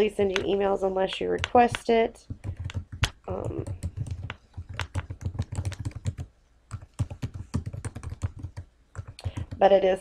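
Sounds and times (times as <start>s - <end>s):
typing on computer keyboard: 0.0s - 9.7s.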